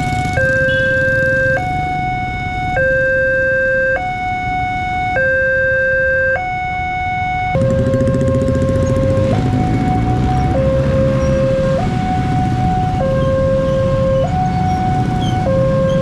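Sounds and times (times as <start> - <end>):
road traffic rumbling: 0.0 - 16.0
two-tone electronic crossing alarm: 0.0 - 16.0.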